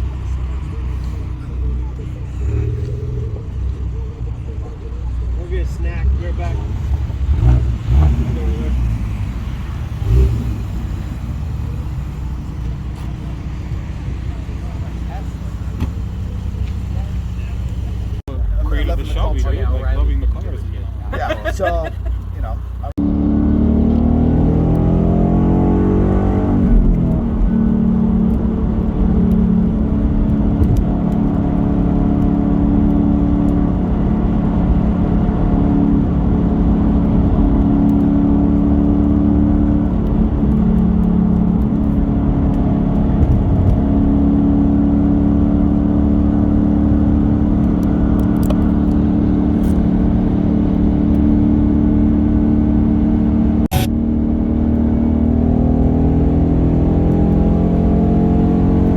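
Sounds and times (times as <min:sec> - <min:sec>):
car engine revving and droning: 0:00.0 - 0:21.0, 0:22.6 - 0:58.9.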